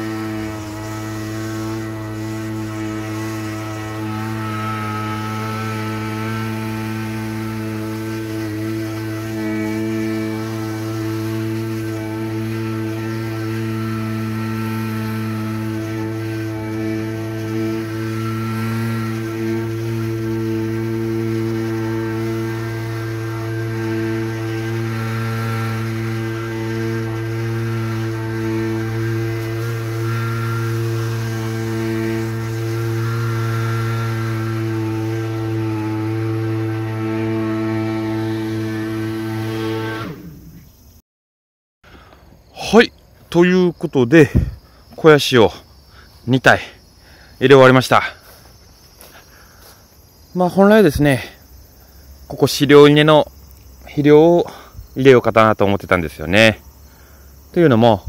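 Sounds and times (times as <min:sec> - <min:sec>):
two-stroke engine running at high speed: 0:00.0 - 0:41.0, 0:47.0 - 0:58.0.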